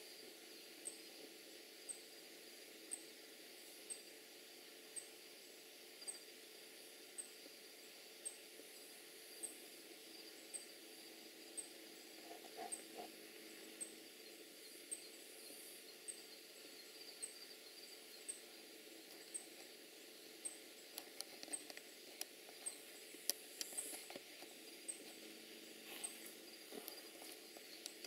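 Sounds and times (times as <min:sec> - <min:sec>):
faint steady hiss: 0:00.0 - 0:28.0
insect chirping: 0:00.0 - 0:28.0.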